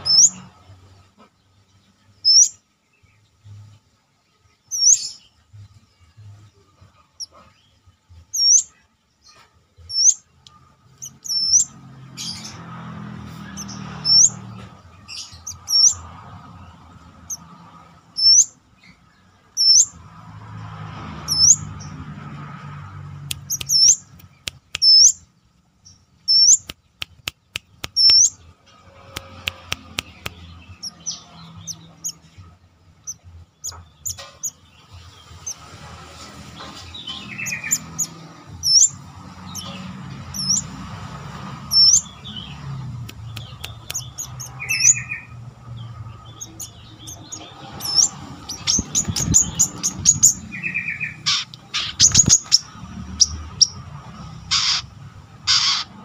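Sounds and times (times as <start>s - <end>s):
lower bird chirps: 0.0s - 0.6s, 2.1s - 3.6s, 4.6s - 5.7s, 7.0s - 20.0s, 21.2s - 21.8s, 23.3s - 40.7s, 41.6s - 53.9s.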